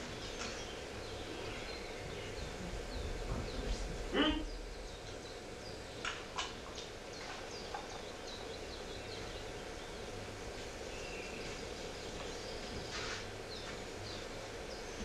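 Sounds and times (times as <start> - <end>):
background hiss and hum: 0.0 - 15.0
small birds chirping: 0.0 - 15.0.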